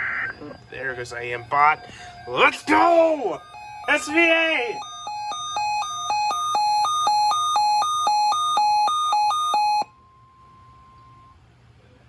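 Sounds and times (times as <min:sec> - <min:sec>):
weather radio alarm warbling beeps: 0:00.0 - 0:09.9
faint steady attention tone: 0:00.5 - 0:11.3.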